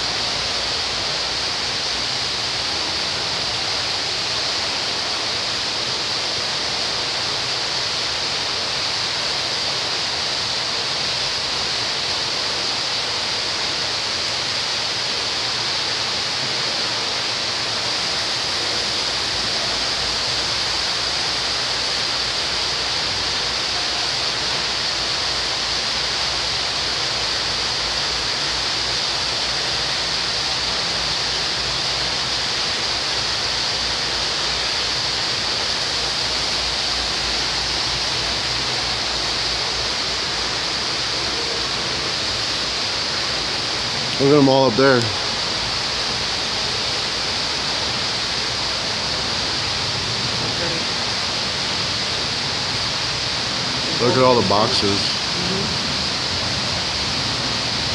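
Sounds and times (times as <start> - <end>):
steady rushing noise: 0.0 - 57.9.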